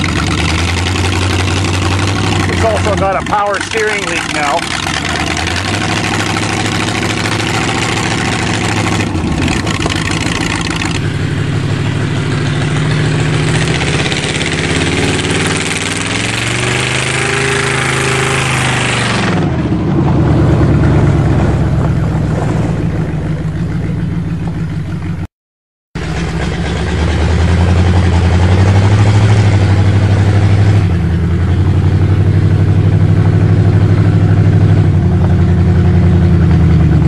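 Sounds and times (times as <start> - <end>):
car engine revving: 0.0 - 25.3, 26.0 - 37.0.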